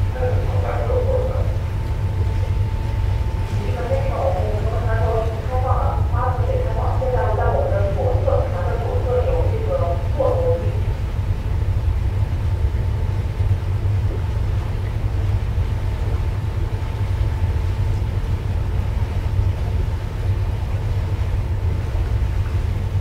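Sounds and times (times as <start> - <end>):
faint steady hum: 0.0 - 23.0
ship engine low rumble: 0.0 - 23.0.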